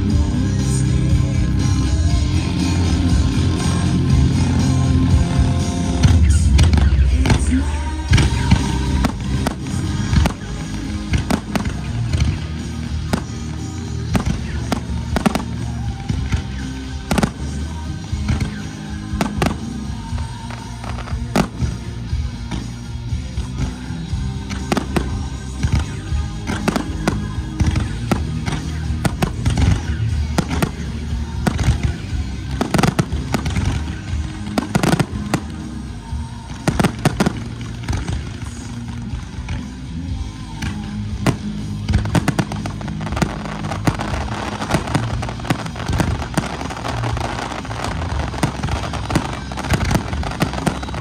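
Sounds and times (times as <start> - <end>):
music playing: 0.0 - 51.0
fireworks bangs: 3.2 - 39.8, 40.5 - 51.0.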